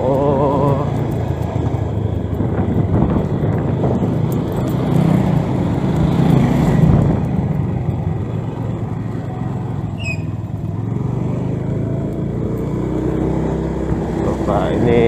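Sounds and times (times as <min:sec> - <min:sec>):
motor scooter engine running: 0:00.0 - 0:15.0.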